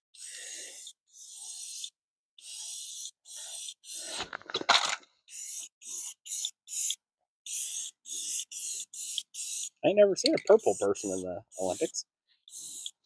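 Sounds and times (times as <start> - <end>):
spray can hissing: 0.2 - 4.3, 5.3 - 13.0.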